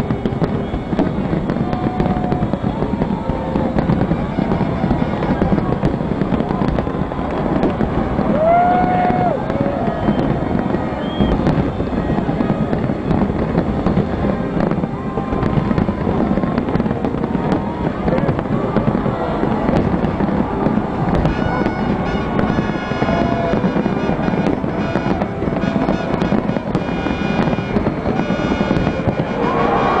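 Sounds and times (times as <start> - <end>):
firework bursts: 0.0 - 30.0
high crackling: 0.0 - 30.0
low rumble of booms: 0.0 - 30.0.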